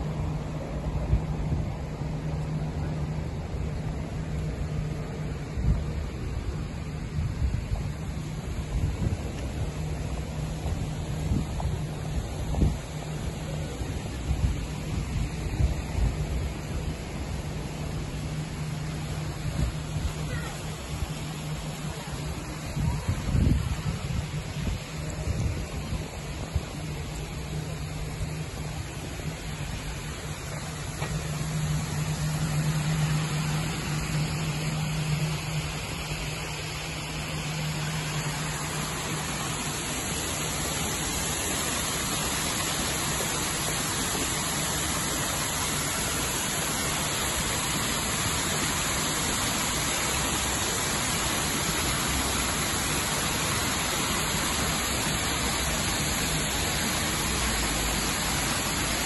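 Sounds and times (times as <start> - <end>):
low steady hum: 0.0 - 59.0
water rushing down a fountain: 0.0 - 59.0.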